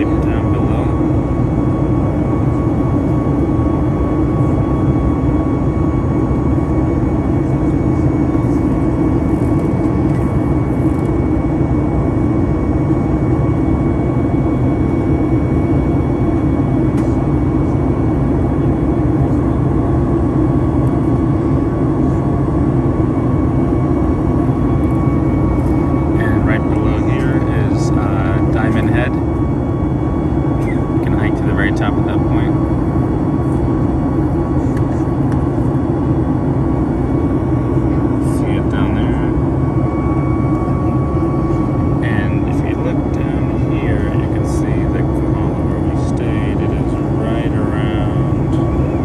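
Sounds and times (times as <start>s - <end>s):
aircraft cabin engine roar: 0.0s - 49.0s
faint steady whine: 0.0s - 49.0s.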